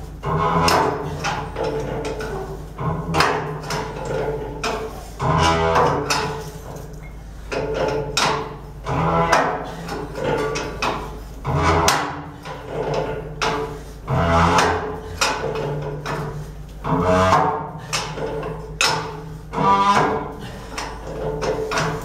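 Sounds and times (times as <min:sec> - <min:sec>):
resonant groaning metal creaks: 0:00.0 - 0:22.0.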